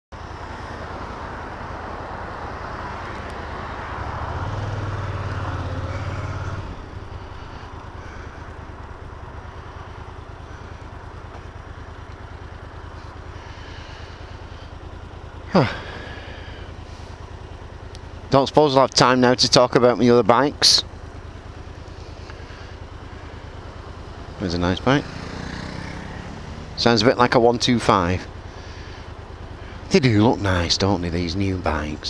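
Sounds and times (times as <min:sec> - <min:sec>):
motorcycle engine running: 0:00.2 - 0:32.0.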